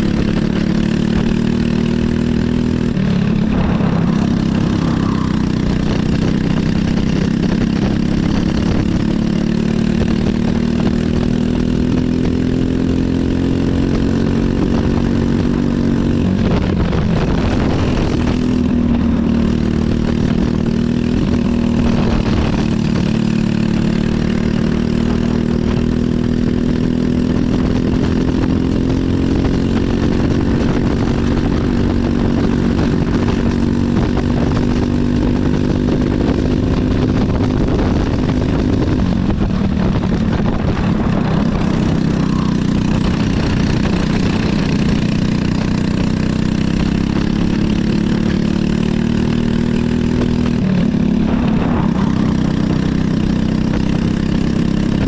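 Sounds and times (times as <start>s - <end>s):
kart engine running hard: 0.0s - 55.0s.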